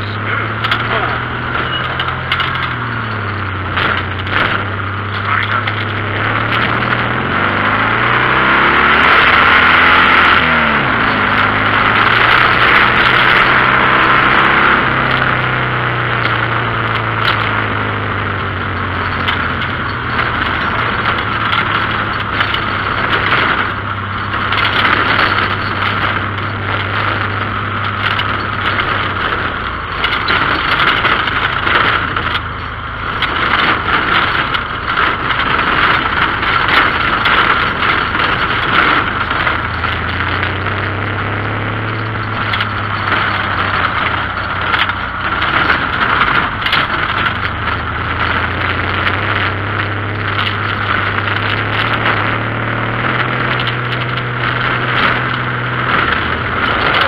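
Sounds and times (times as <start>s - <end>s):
body rattling and clattering: 0.0s - 57.0s
buggy engine running under load: 0.0s - 57.0s.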